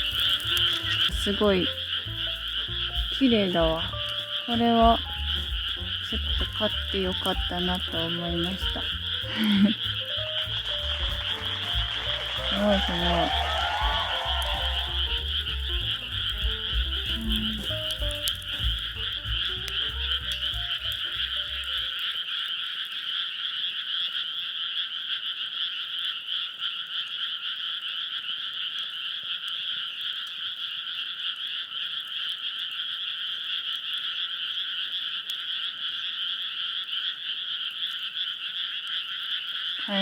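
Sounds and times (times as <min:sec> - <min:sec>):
frog chorus: 0:00.0 - 0:40.0.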